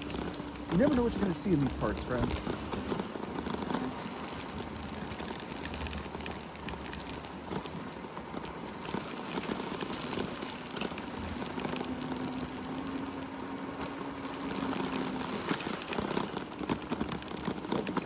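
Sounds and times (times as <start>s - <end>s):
low hum: 0.0s - 18.0s
tyres crackling on wet trail: 0.0s - 18.0s.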